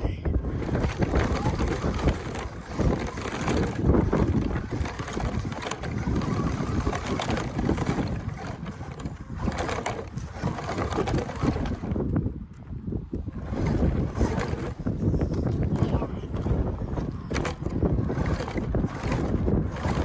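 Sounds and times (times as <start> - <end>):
toy truck drivetrain rumble: 0.3 - 20.0
stones crackling and rattling: 0.6 - 20.0.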